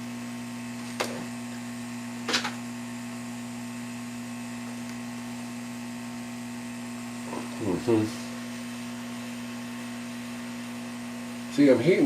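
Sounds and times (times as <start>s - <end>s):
hot-air tool humming: 0.0s - 12.0s.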